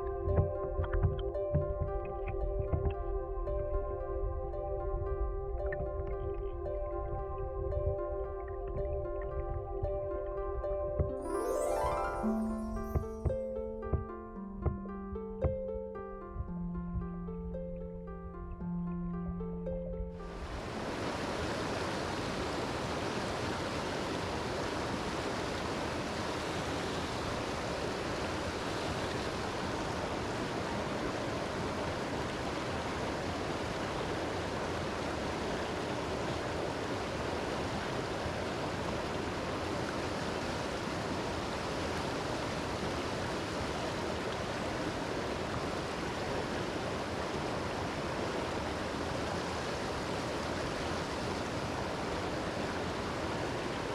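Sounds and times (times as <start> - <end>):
stream water rushing: 5.0 - 14.8, 20.2 - 53.9.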